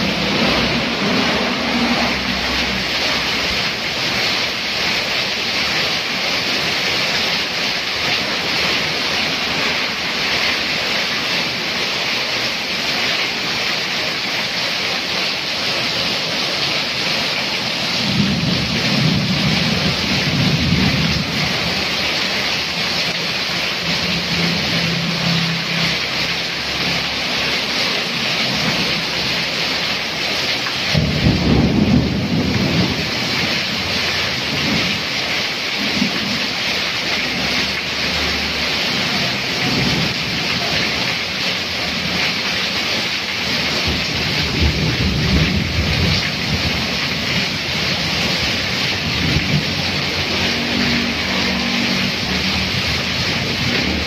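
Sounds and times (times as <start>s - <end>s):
heavy rain on road and roof: 0.0s - 54.0s
water streaming off roof: 0.0s - 54.0s.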